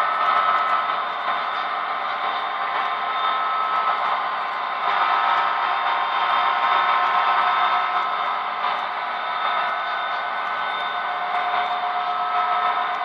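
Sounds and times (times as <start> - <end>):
faint steady whine: 0.0 - 13.0
model train wheels whirring: 0.0 - 13.0.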